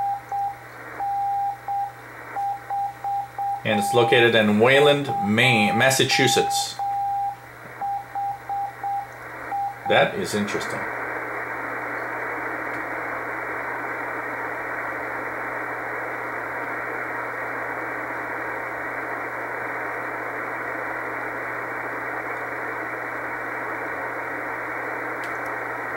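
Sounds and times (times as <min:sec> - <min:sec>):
low hum: 0:00.0 - 0:25.9
shortwave receiver static: 0:00.0 - 0:25.9.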